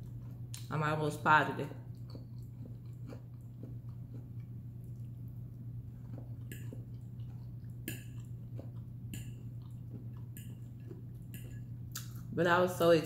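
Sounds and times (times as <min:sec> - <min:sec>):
wet chewing: 0:00.0 - 0:00.9, 0:01.8 - 0:12.3
low hum: 0:00.0 - 0:13.0.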